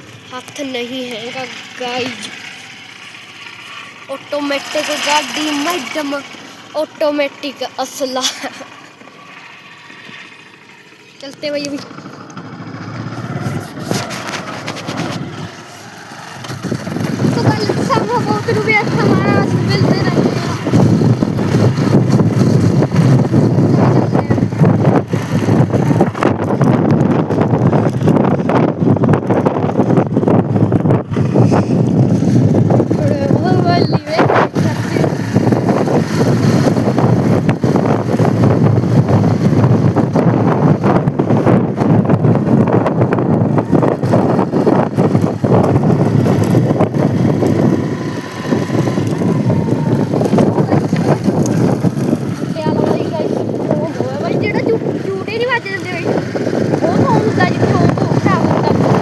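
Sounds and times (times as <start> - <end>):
motorbike ride noise: 0.0 - 59.0
road and vehicle noise: 0.0 - 59.0
wind buffeting microphone: 0.0 - 59.0.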